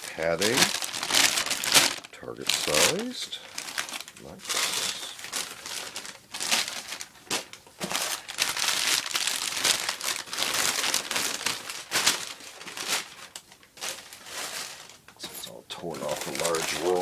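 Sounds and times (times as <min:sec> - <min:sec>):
crumpled paper crinkling: 0:00.0 - 0:17.0.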